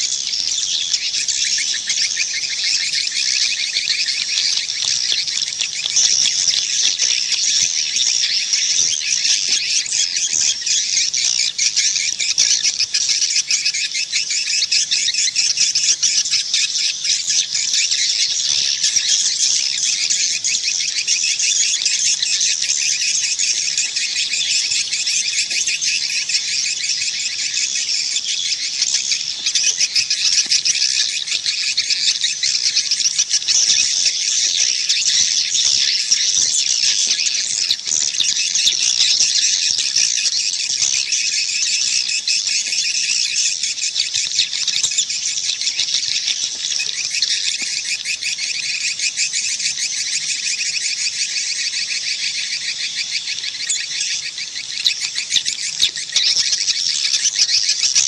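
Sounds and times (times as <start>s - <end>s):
swiftlet chorus twittering chirps: 0.0s - 58.0s.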